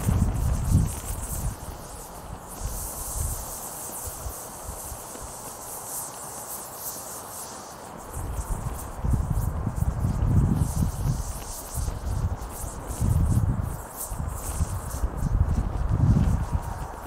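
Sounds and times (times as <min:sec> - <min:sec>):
wind rumbling on microphone: 0:00.0 - 0:05.8, 0:07.8 - 0:17.0
fire crackling: 0:00.0 - 0:17.0.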